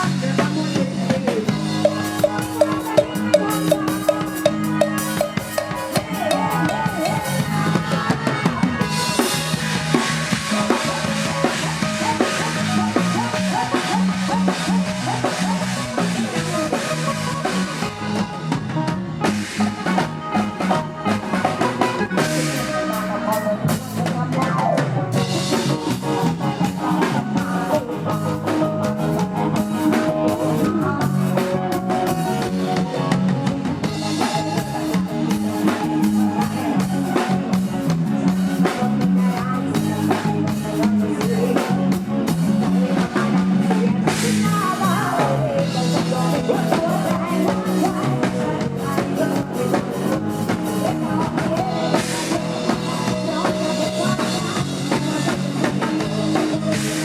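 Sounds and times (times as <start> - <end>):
drum kit with rimshots: 0.0 - 57.0
live band music: 0.0 - 57.0.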